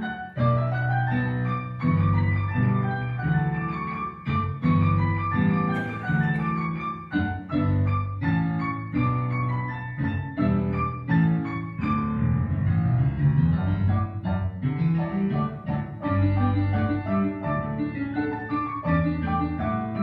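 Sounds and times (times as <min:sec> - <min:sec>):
classical piano ensemble music: 0:00.0 - 0:20.0.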